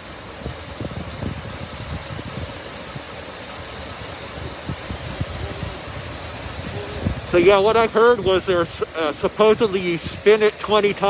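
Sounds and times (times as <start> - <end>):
water rushing from hydrant: 0.0 - 11.0.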